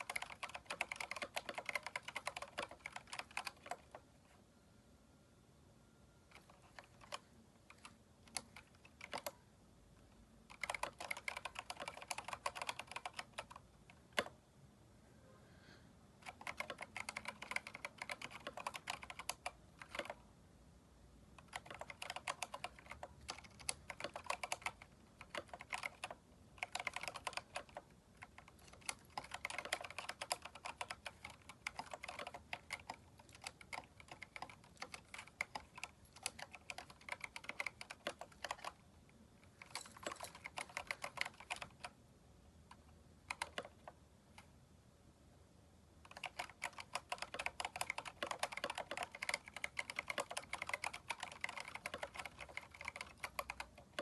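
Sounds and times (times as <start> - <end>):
typing on mechanical keyboard: 0.0 - 4.0, 6.3 - 9.4, 10.4 - 14.4, 16.2 - 20.3, 21.4 - 38.8, 39.4 - 42.0, 42.7 - 44.5, 46.0 - 54.0.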